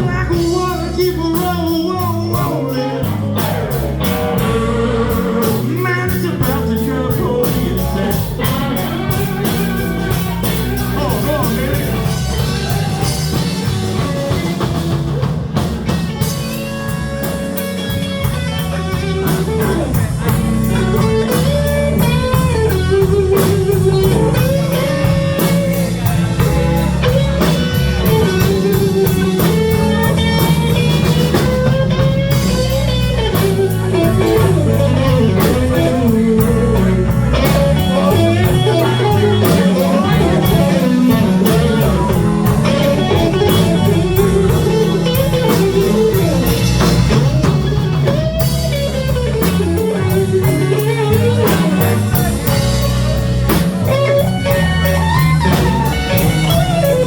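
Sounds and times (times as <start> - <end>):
bass guitar: 0.0 - 57.0
drum kit: 0.0 - 57.0
electric guitar lead lines: 0.0 - 57.0.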